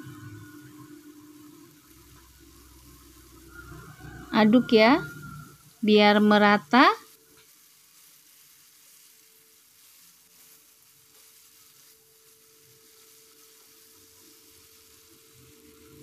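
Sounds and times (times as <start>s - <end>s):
faint sizzle in a wok: 0.0s - 16.0s.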